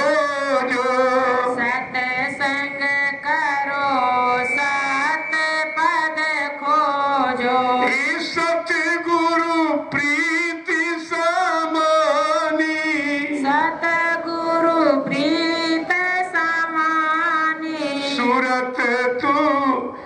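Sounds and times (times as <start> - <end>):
person singing devotional song: 0.0 - 20.0.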